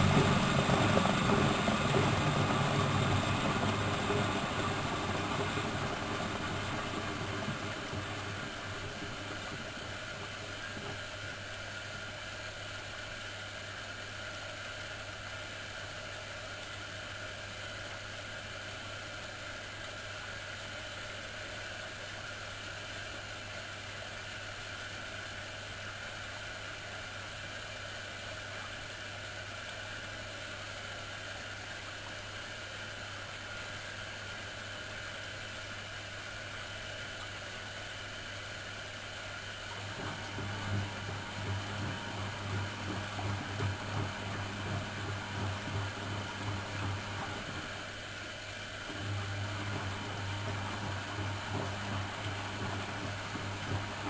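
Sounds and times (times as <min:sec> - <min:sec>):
washing machine whirring and humming: 0:00.0 - 0:54.0.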